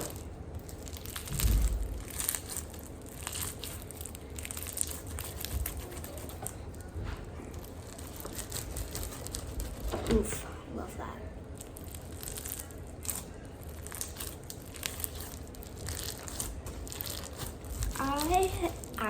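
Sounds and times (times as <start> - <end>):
crunchy slime being squished: 0.0 - 10.3, 11.5 - 19.0.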